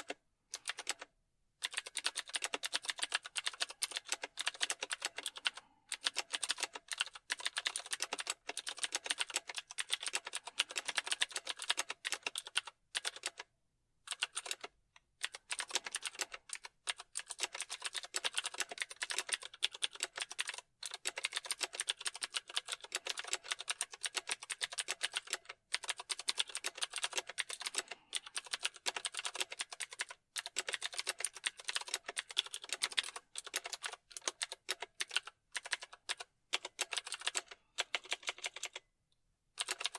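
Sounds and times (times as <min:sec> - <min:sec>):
fast typing on a keyboard: 0:00.0 - 0:13.5, 0:14.1 - 0:38.8, 0:39.6 - 0:39.9.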